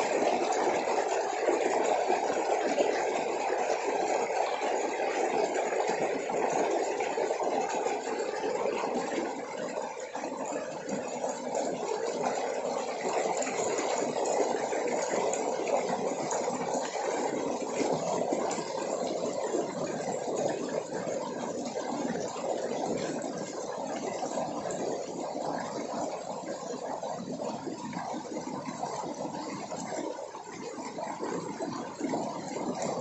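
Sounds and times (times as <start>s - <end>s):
water rushing over rocks: 0.0s - 33.0s.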